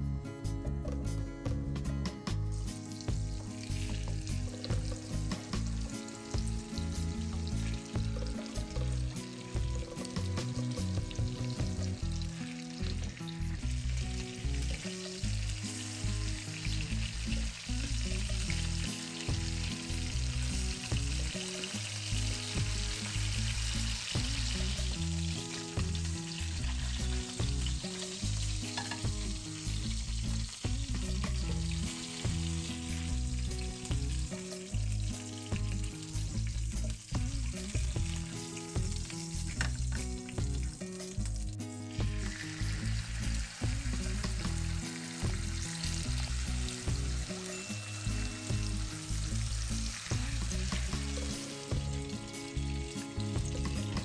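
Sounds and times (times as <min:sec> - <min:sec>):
chicken sizzling in a pan: 0:02.2 - 0:54.0.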